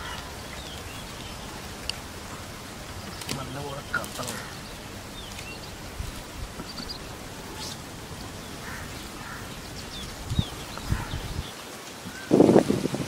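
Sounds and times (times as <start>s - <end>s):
birds chirping: 0.0s - 12.5s
steady outdoor hiss: 0.0s - 13.0s.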